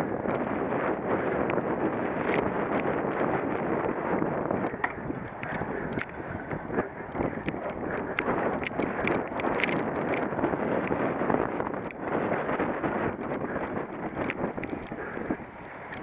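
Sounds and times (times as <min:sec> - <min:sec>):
bike rattling over rough ground: 0:00.0 - 0:16.0
sharp clicks and knocks from bike: 0:00.0 - 0:16.0
wind on microphone: 0:00.0 - 0:16.0.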